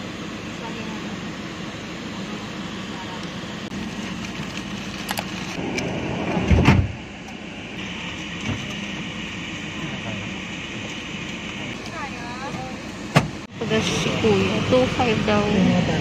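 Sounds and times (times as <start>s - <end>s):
van cabin hum: 0.0s - 16.0s.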